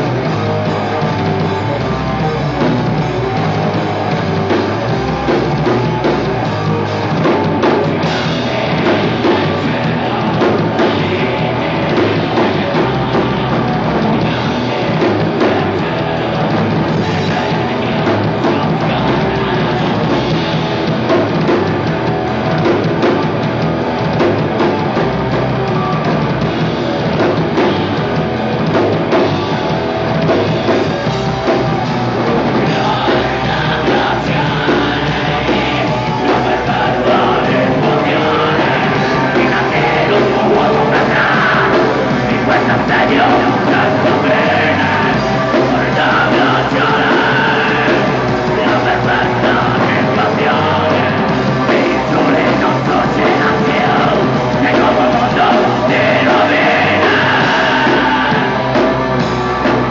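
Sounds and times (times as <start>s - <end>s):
bass guitar: 0.0s - 59.9s
distorted electric guitars: 0.0s - 59.9s
drum kit: 0.0s - 59.9s.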